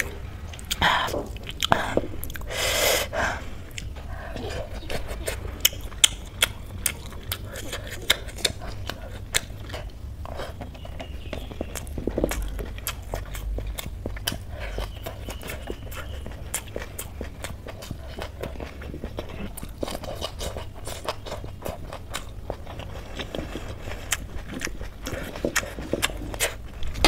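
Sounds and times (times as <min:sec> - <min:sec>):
wet chewing and lip-smacking: 0:00.0 - 0:02.6, 0:03.7 - 0:27.0
steady low hum: 0:00.0 - 0:27.0.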